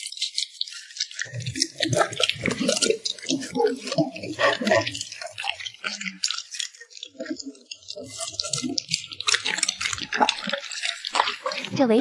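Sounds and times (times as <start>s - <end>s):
dog eating wet food: 0.0s - 12.0s.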